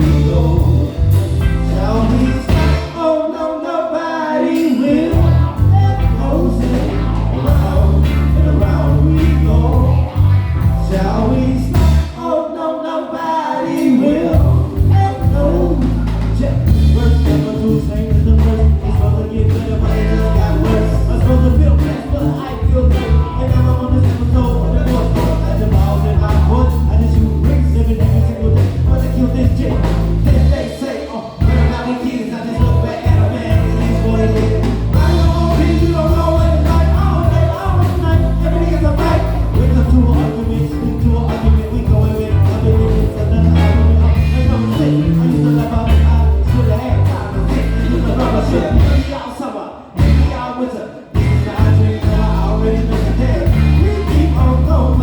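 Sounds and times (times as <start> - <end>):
live band playing a groove: 0.0 - 3.3, 4.6 - 12.3, 13.7 - 55.0
person singing: 0.0 - 55.0.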